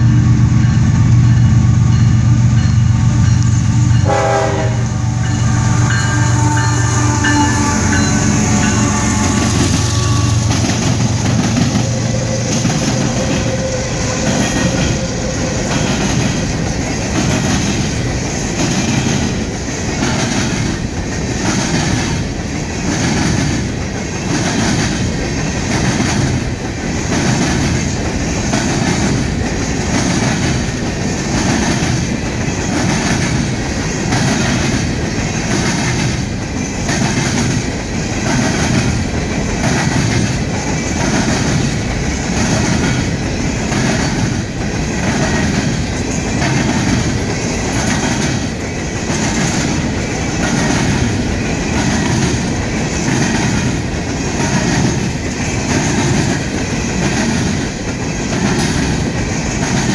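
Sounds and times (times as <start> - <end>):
train wheels clacking on rails: 0.0 - 59.9.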